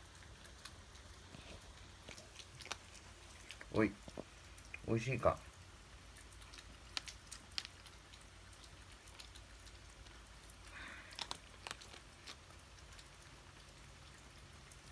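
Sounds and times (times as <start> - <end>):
cat crunching dry kibble: 0.1 - 14.9.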